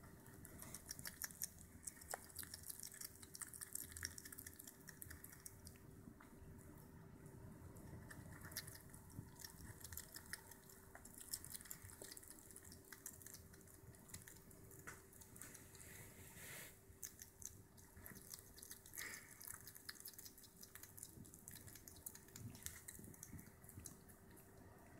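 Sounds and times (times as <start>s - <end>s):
hedgehog chewing and crunching: 0.0s - 6.4s, 7.5s - 24.9s
faint steady hum: 0.0s - 24.9s.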